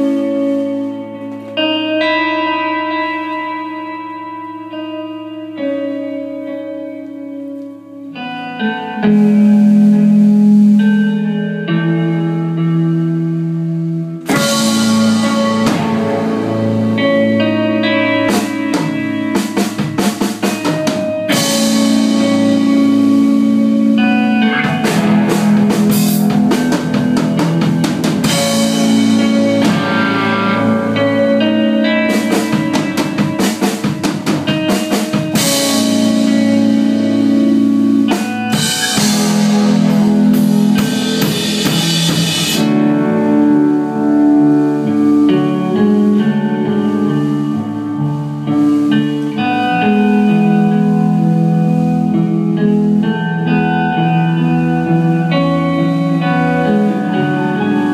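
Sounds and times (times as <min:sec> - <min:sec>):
drum kit: 0:00.0 - 0:04.8, 0:05.8 - 0:57.9
bass guitar: 0:00.0 - 0:57.9
electric guitar chords: 0:00.0 - 0:57.9.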